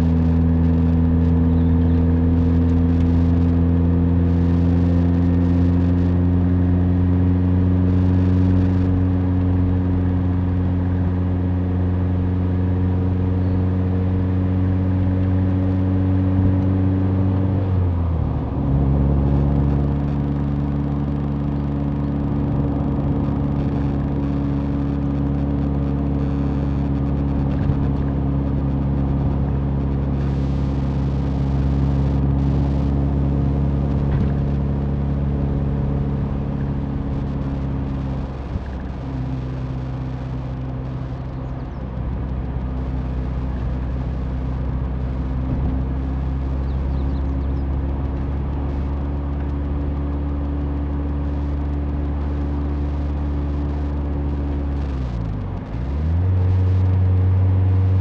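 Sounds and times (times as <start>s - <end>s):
car engine cruising: 0.0s - 58.0s
road and tyre noise: 0.0s - 58.0s.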